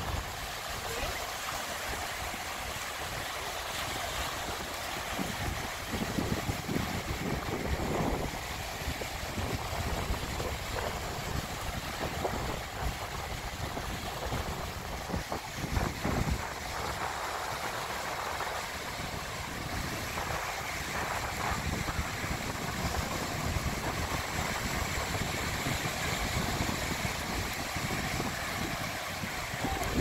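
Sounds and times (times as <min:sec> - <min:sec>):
waves washing on sandy beach: 0:00.0 - 0:30.0
wind buffeting microphone: 0:00.0 - 0:30.0.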